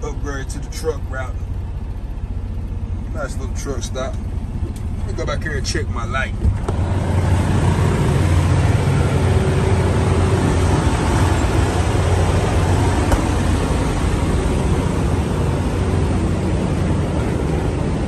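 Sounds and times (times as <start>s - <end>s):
truck engines idling: 0.0s - 18.0s.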